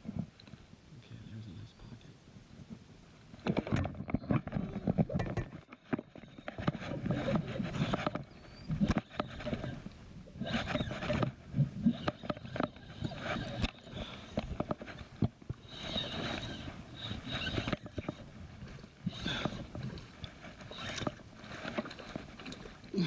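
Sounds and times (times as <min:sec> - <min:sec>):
rustling: 0:02.7 - 0:23.0.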